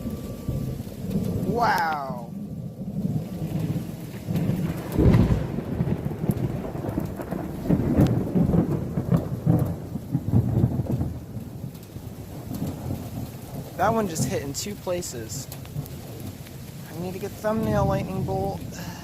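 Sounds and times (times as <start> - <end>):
steady rain: 0.0 - 19.0
thunder clap and rumbling: 0.0 - 19.0.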